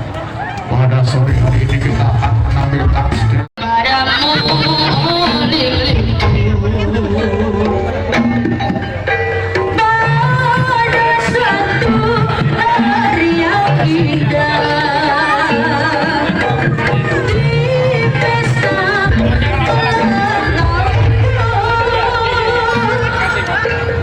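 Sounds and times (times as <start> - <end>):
winding gamelan melody: 1.3 - 24.0
hand drums: 4.4 - 24.0.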